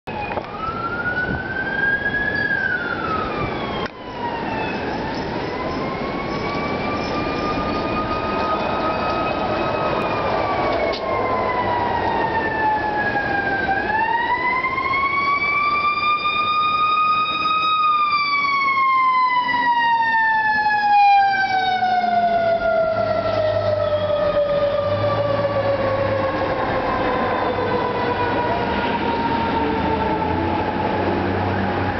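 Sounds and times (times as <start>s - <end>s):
mechanical siren wailing: 0.1s - 31.9s.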